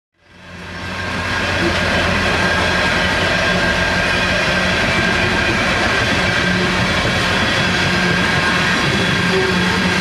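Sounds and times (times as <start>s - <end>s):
train wheels on rails: 0.2s - 10.0s.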